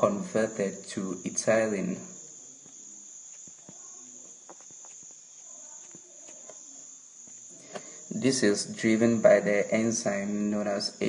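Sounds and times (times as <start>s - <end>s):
steady high-pitched buzz: 0.0s - 11.0s.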